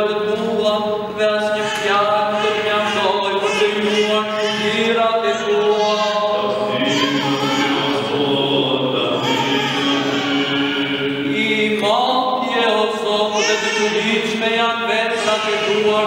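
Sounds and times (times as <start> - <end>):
men chanting together: 1.4 - 16.0.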